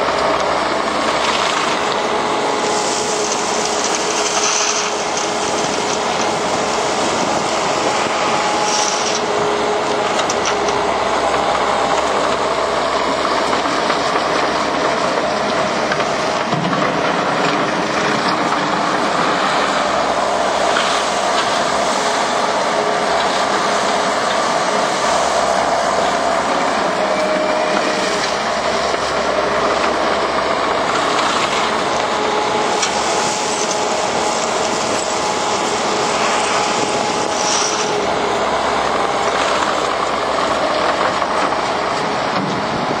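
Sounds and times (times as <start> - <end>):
diesel engine running loudly: 0.0 - 43.0.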